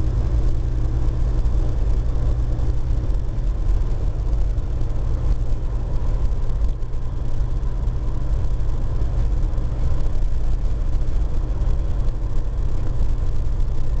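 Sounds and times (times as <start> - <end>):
truck engine drone in cab: 0.0 - 14.0.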